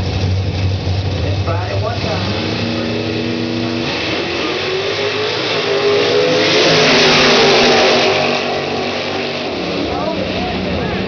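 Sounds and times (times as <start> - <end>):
drag racing cars accelerating: 0.0 - 11.0.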